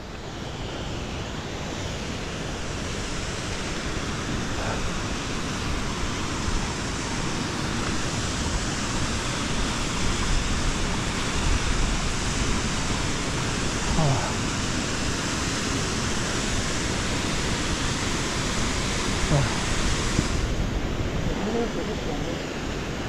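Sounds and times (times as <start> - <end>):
meltwater stream rushing: 0.0 - 23.0.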